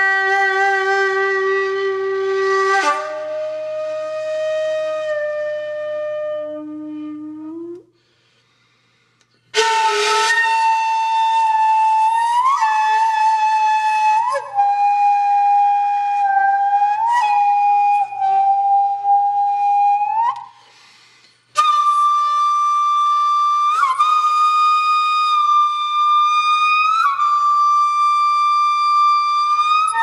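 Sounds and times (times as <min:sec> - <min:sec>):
solo flute: 0:00.0 - 0:08.2, 0:09.5 - 0:20.9, 0:21.5 - 0:30.0.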